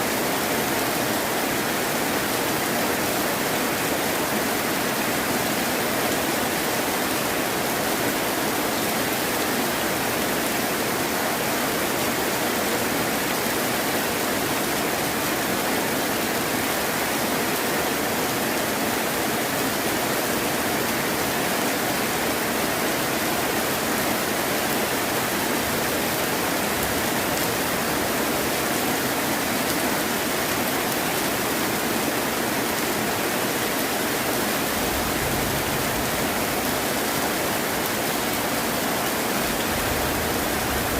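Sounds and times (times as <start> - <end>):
heavy rain hissing: 0.7 - 40.9.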